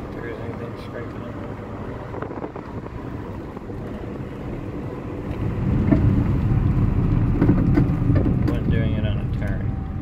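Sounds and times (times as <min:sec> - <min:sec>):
road and tyre rumble: 0:00.0 - 0:10.0.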